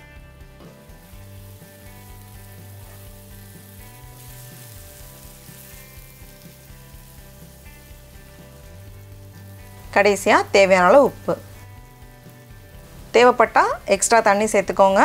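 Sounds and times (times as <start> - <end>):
masala sizzling in a skillet: 0.0 - 15.0.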